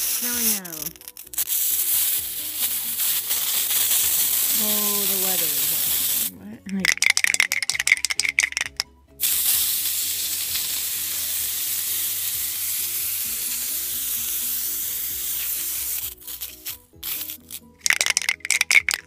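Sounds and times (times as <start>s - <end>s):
aerosol can spraying: 0.0s - 19.0s.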